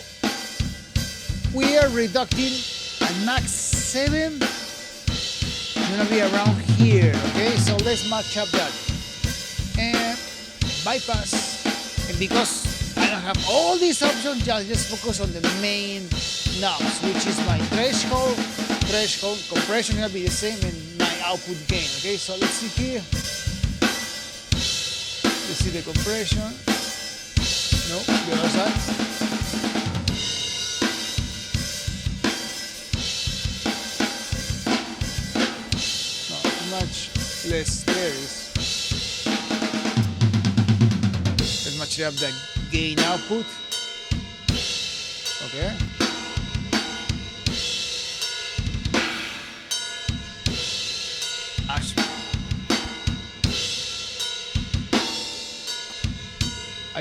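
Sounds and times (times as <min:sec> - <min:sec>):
cymbals washing: 0:07.3 - 0:40.2, 0:41.4 - 0:57.0.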